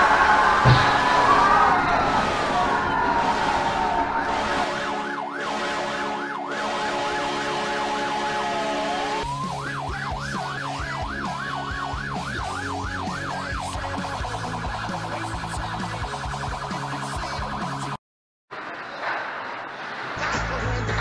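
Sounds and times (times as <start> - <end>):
warbling siren wail: 0.0 - 18.0.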